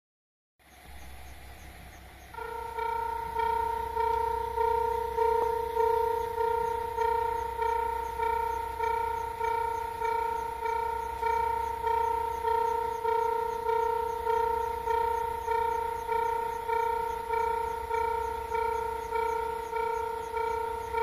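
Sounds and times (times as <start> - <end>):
low hum: 0.7 - 21.0.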